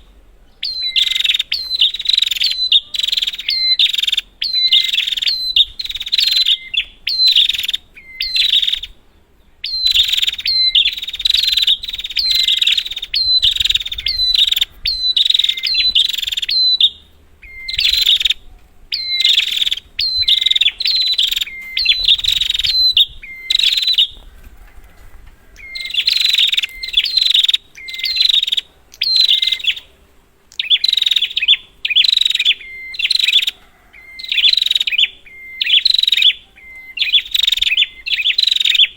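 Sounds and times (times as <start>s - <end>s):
bird chattering calls: 0.6s - 9.0s, 9.6s - 38.9s.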